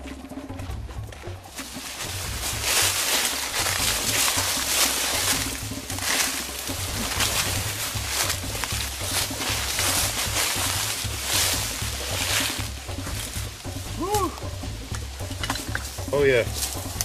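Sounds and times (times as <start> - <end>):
branches and leaves rustling: 0.0 - 17.0
footsteps crunching dry leaves: 0.0 - 17.0.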